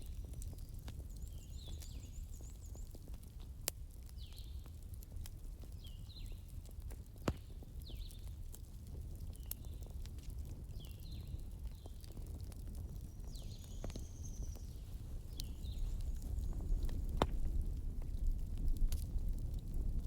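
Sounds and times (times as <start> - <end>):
campfire crackling and popping: 0.0 - 20.0
low rumble of flames: 0.0 - 20.0.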